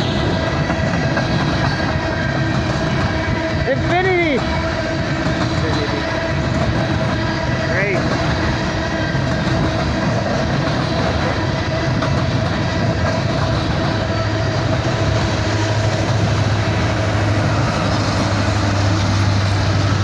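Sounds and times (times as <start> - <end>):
steel wheels clattering on rail: 0.0 - 20.0.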